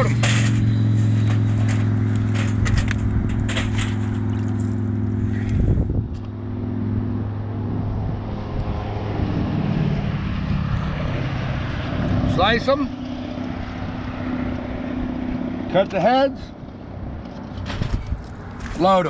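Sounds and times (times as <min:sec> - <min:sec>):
freeway traffic drone: 0:00.0 - 0:19.0.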